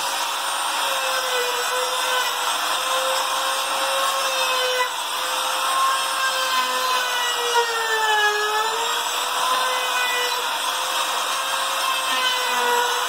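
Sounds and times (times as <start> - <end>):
trim router whining: 0.0 - 13.0.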